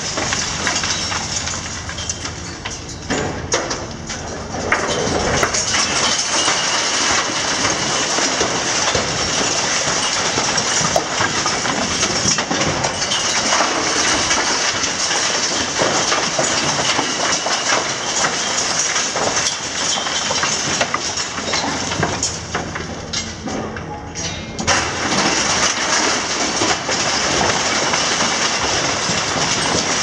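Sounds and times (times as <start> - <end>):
masonry rubble crashing down: 0.0 - 23.8, 24.6 - 30.0.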